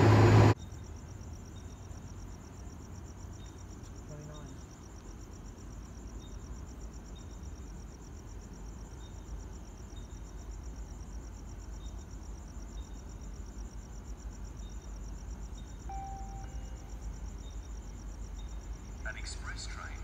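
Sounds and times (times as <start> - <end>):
crickets chirping: 0.5 - 20.0
higher insect chirps: 0.6 - 20.0.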